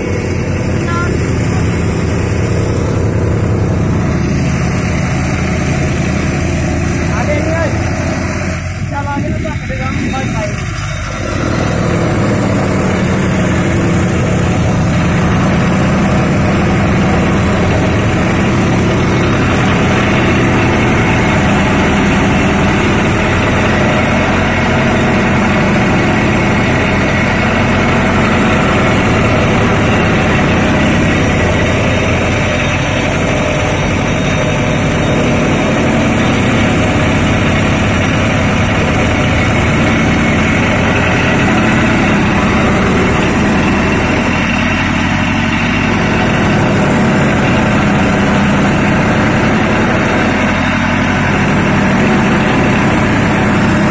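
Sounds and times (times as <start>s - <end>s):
straw chopper engine running: 0.0s - 53.9s.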